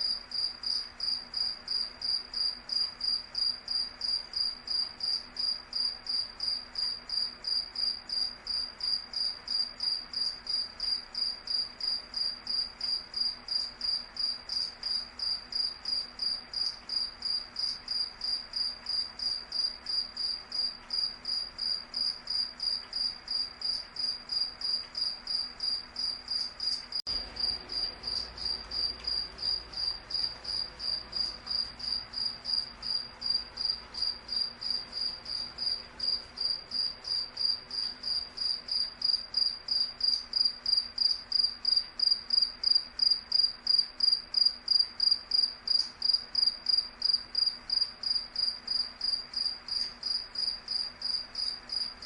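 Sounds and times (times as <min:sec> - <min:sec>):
cricket chirping: 0:00.0 - 0:52.0.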